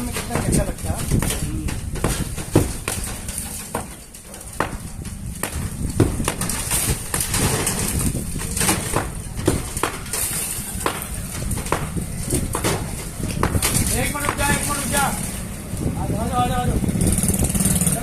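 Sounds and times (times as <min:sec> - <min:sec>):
heavy blows on a wall: 0:00.0 - 0:18.0.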